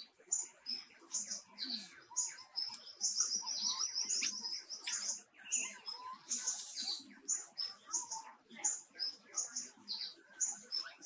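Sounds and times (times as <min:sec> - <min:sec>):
bird trill: 0:00.0 - 0:11.0
birds chirping: 0:00.0 - 0:11.0.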